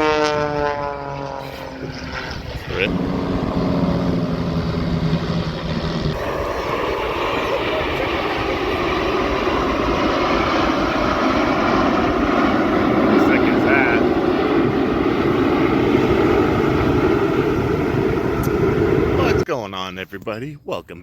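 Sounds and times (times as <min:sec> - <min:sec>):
broad rushing roar: 0:00.0 - 0:19.5
propeller engine drone: 0:00.0 - 0:19.5.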